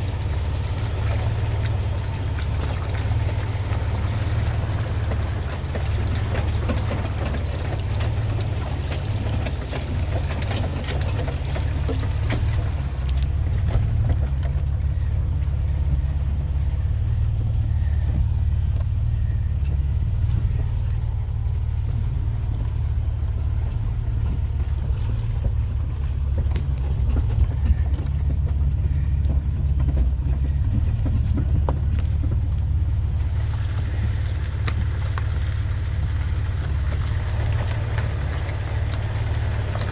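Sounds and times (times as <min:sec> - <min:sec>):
water splashing and hissing: 0:00.0 - 0:19.4, 0:22.4 - 0:39.9
vehicle engine droning: 0:00.0 - 0:39.9.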